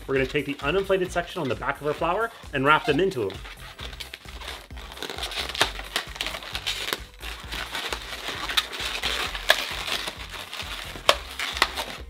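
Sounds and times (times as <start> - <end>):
background music: 0.0 - 12.0
balloons squeaking and rubbing: 0.0 - 12.0.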